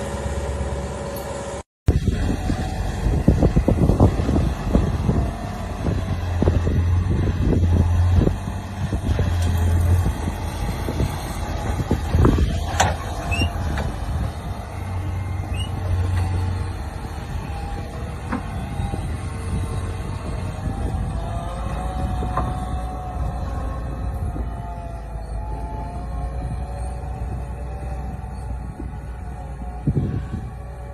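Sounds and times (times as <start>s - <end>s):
heavy vehicle engine running: 0.0s - 30.9s.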